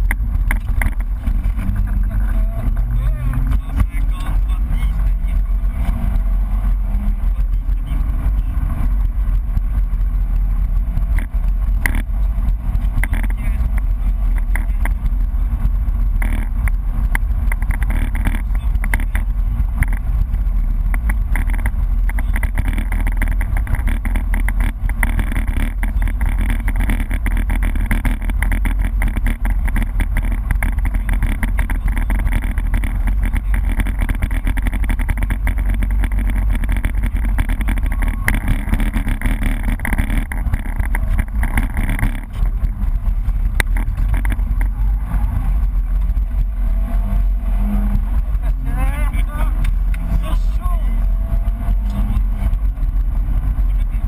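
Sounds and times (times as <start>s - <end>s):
car engine under load: 0.0s - 54.0s
tyre and road noise: 0.0s - 54.0s.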